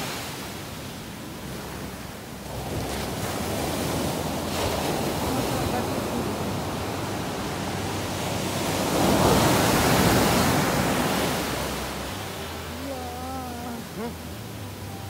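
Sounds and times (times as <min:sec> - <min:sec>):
ocean surf breaking on a beach: 0:00.0 - 0:15.0.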